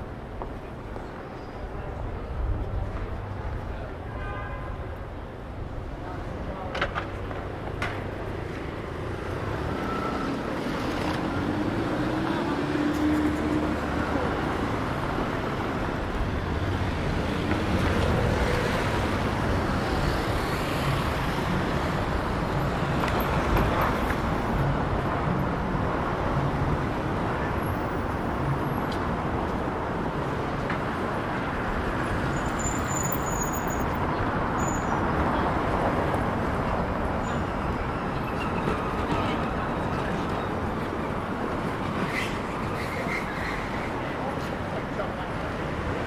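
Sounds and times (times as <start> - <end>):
road traffic: 0.0 - 46.0.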